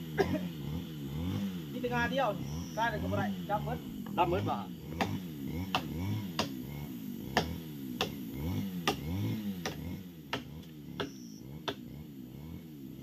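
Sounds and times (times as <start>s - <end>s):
low wavering hum: 0.0s - 13.0s.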